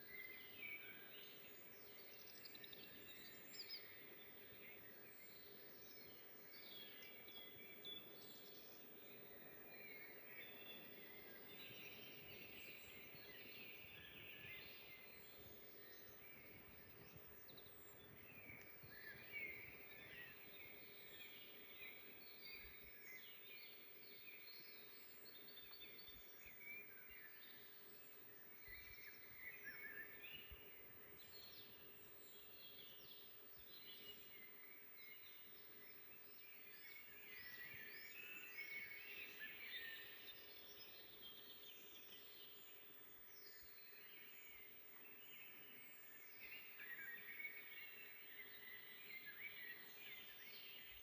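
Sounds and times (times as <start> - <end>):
songbirds chirping and warbling: 0.0 - 51.0.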